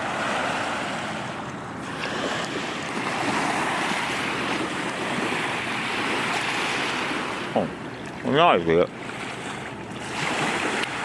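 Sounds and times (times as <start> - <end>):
river waves washing: 0.0 - 11.0.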